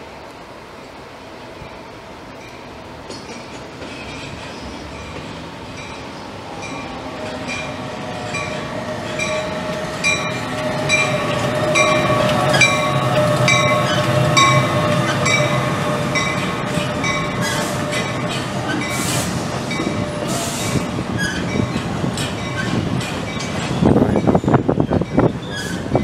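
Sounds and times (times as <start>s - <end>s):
electric train passing: 0.0s - 26.0s
train wheels clicking on rail joints: 2.4s - 26.0s.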